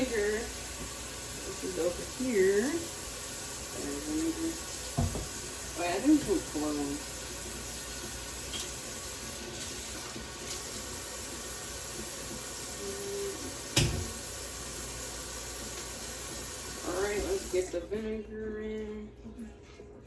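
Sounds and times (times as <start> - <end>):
faucet running into sink: 0.0 - 17.7.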